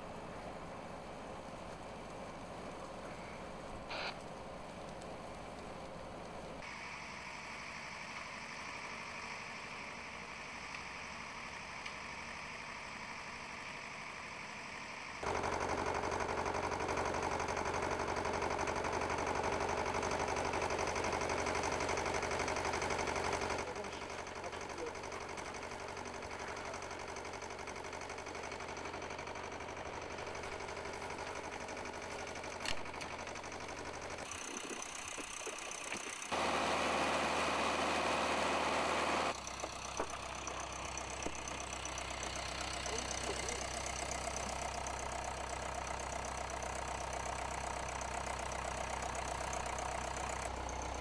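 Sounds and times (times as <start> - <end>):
machinery humming: 0.0 - 51.0.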